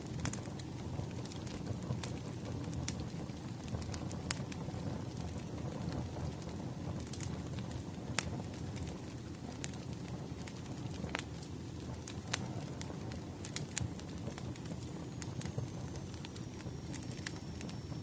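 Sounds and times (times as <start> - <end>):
low rumble of burning logs: 0.0 - 18.0
wood fire crackling and popping: 0.0 - 18.0.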